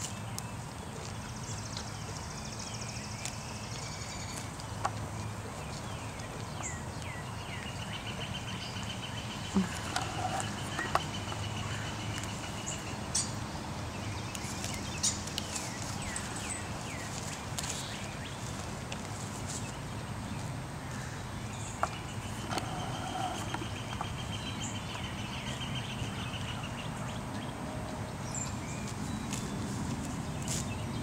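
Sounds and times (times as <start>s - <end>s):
pony tearing and chewing grass: 0.0s - 8.9s, 9.5s - 13.4s, 14.2s - 25.8s, 28.5s - 31.0s
small birds singing: 0.0s - 31.0s.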